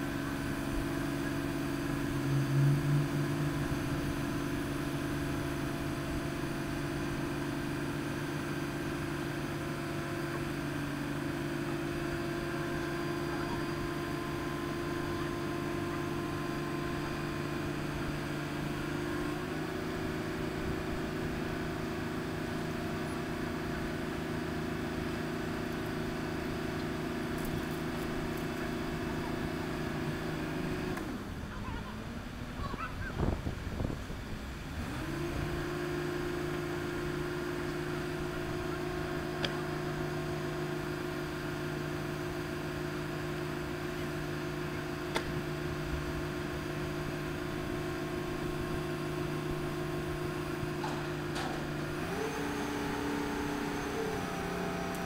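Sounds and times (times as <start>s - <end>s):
crane engine running under load: 0.0s - 55.0s.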